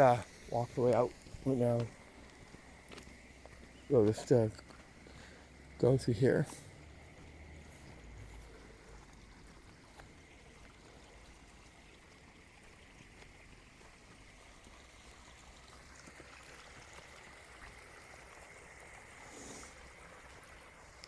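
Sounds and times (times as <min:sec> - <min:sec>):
rustle: 0:00.0 - 0:21.0.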